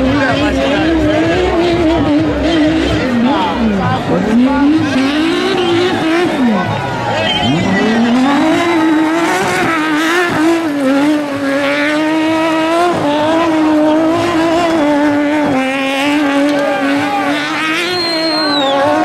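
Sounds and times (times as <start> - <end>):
car engine revving high: 0.0 - 19.0.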